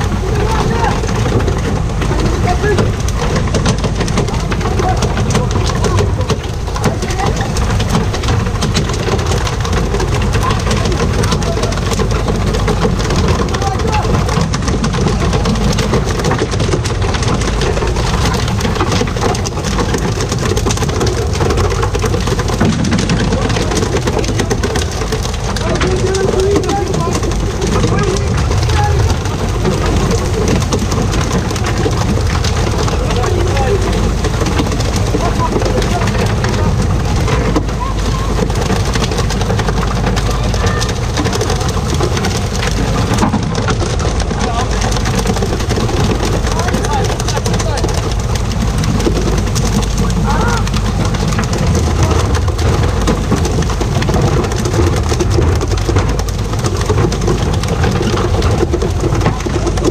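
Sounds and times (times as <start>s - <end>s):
boat engine running: 0.0s - 59.9s
sea splashing against boat: 0.0s - 59.9s
small clicks and slaps: 0.0s - 59.9s.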